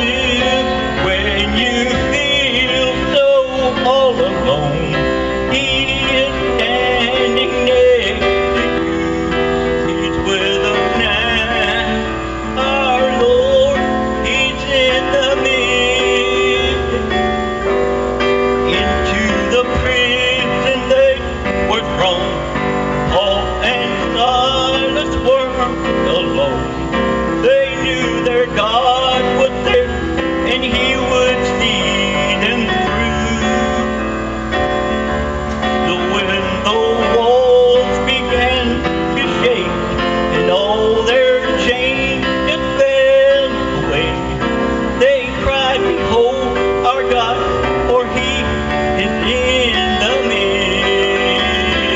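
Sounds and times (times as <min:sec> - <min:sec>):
amplified instrumental accompaniment: 0:00.0 - 0:51.9
man singing into a microphone: 0:00.0 - 0:51.9.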